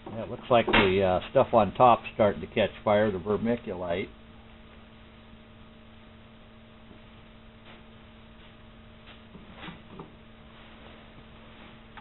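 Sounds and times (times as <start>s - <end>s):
quiet steady hum: 0.0s - 12.0s.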